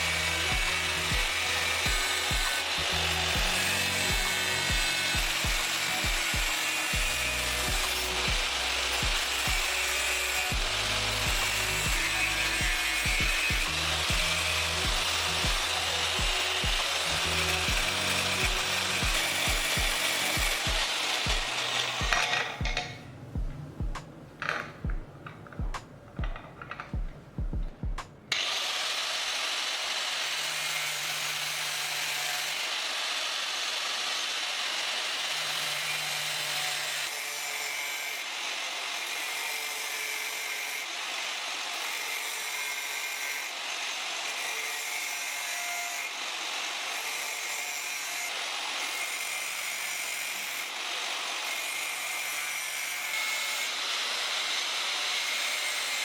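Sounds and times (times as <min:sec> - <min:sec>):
power tool grinding: 0:00.0 - 0:56.0.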